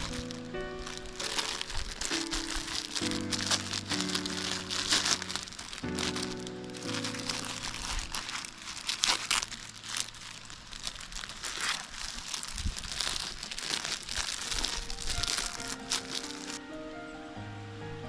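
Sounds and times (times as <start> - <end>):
crinkling and rustling: 0.0 - 16.6.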